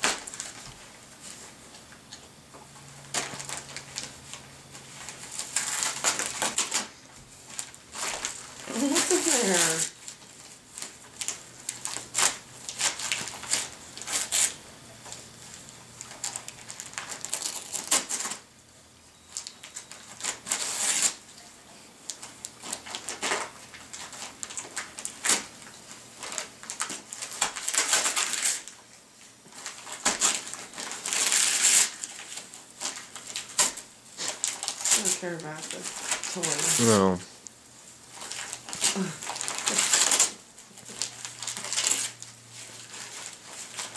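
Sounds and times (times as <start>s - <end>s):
wrapping paper crinkling and tearing: 0.0s - 1.8s, 3.0s - 18.5s, 19.3s - 21.2s, 22.0s - 43.9s.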